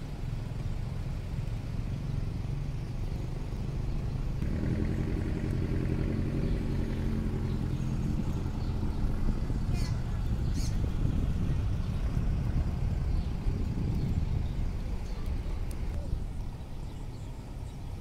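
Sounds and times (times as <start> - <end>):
low engine rumble: 0.0 - 18.0
steady engine hum: 0.0 - 18.0.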